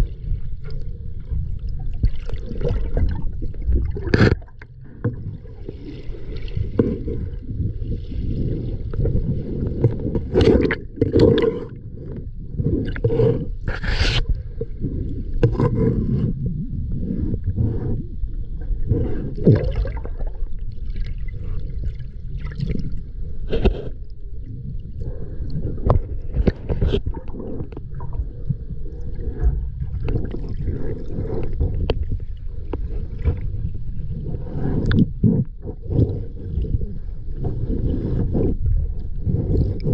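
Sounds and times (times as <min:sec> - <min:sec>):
underwater rumble of moving water: 0:00.0 - 0:39.9.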